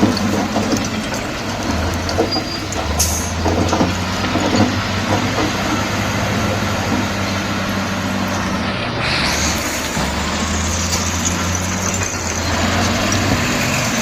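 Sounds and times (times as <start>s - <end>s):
bulldozer diesel engine running: 0.0s - 14.0s
clanks and knocks of steel tracks: 0.0s - 14.0s.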